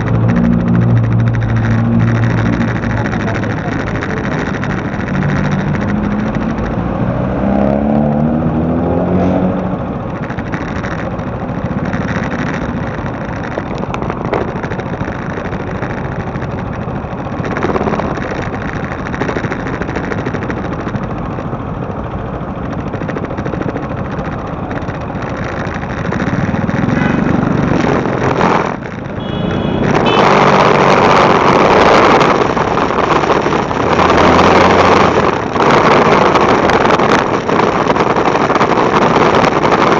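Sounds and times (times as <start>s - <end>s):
wind noise on microphone: 0.0s - 21.1s, 22.5s - 39.9s
motorcycle engine accelerating: 0.0s - 39.9s.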